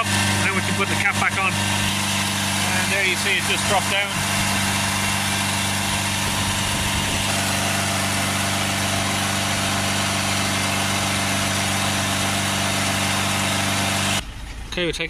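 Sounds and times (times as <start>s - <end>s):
diesel engine running at raised revs: 0.0s - 15.0s.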